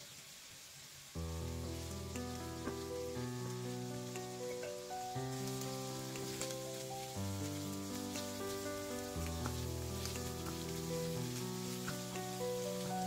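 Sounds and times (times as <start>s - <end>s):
shrimp sizzling in oil: 0.0s - 13.0s
slow sustained chords music: 1.2s - 13.0s.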